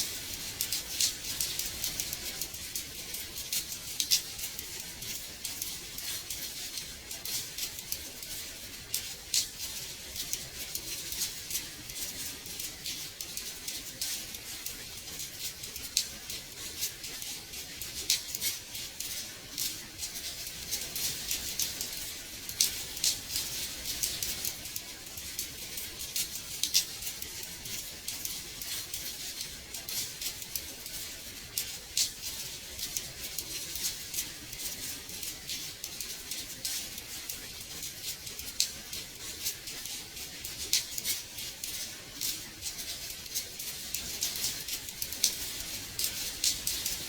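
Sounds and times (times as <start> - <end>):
rain pattering on window glass: 0.0 - 47.0.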